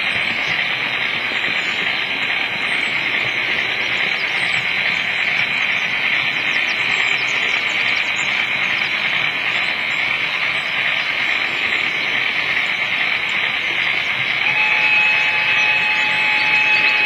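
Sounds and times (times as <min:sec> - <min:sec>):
model train motor: 0:00.0 - 0:17.0
model train wheels on rails: 0:00.0 - 0:17.0.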